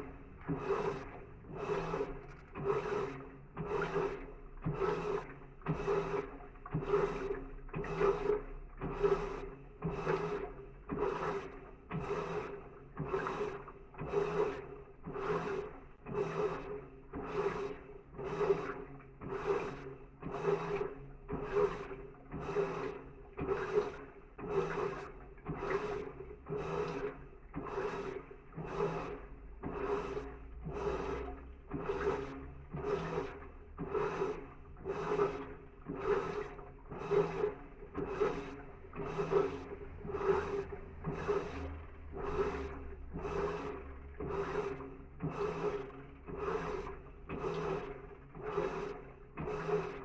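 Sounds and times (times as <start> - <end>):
washing machine motor humming: 0.0 - 50.0.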